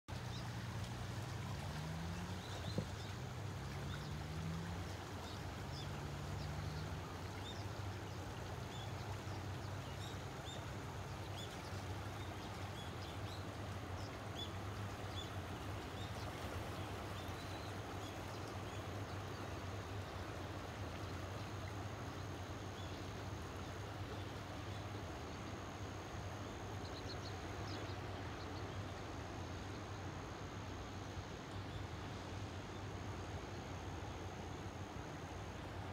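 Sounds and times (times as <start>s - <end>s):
river rushing: 0.1s - 35.9s.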